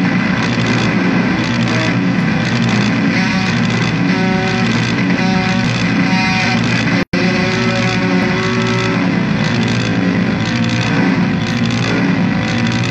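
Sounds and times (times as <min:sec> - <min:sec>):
noise music wall of noise: 0:00.0 - 0:12.9
short repeated tones: 0:00.4 - 0:12.9.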